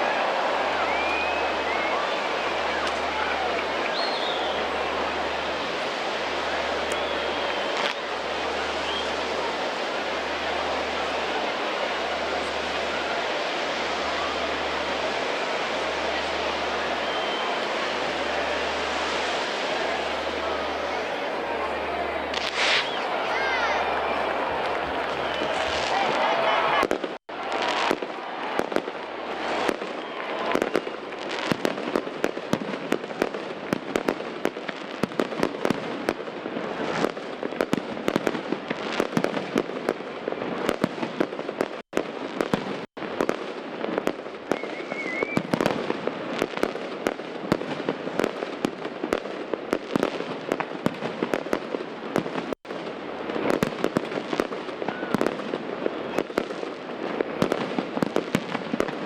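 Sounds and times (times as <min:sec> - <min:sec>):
fireworks crackling and popping: 0:00.0 - 0:59.0.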